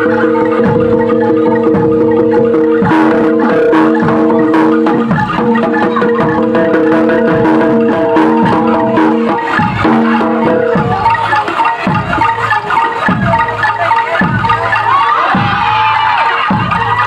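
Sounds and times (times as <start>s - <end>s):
mallet percussion and drums music: 0.0s - 17.0s.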